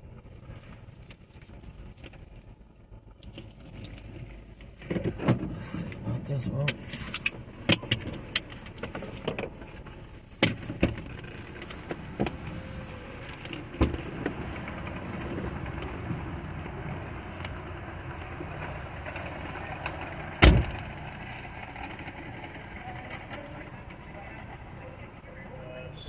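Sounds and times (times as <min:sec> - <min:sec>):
low car hum: 0:00.0 - 0:26.0.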